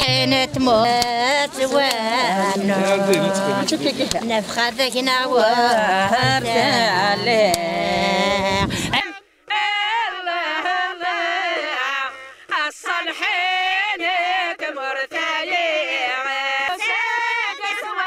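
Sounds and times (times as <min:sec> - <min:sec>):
women singing folk song: 0:00.0 - 0:18.0.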